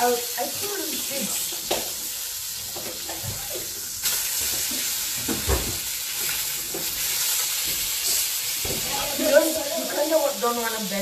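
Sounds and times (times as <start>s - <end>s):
burgers sizzling in frying pan: 0.0s - 11.0s.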